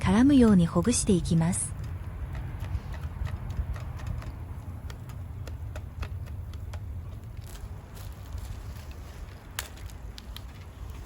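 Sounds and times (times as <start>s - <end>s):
light clicks and crackles: 1.8s - 11.0s.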